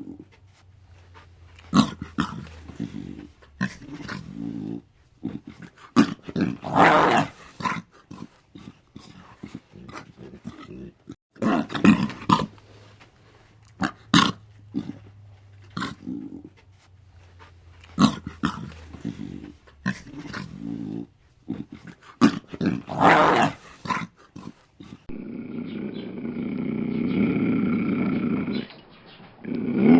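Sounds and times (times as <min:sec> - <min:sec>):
lion growling and grunting: 0:00.0 - 0:00.3, 0:01.6 - 0:12.6, 0:13.8 - 0:16.6, 0:17.9 - 0:28.8, 0:29.4 - 0:29.9.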